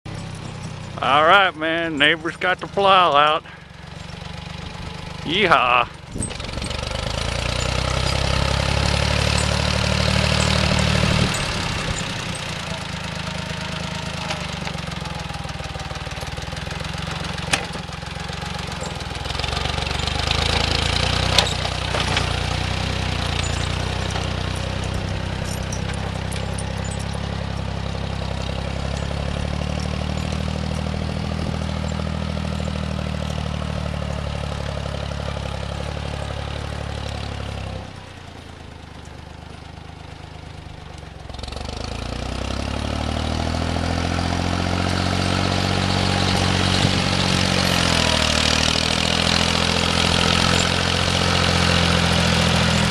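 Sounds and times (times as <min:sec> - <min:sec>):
snowplow engine running: 0:00.1 - 0:52.9.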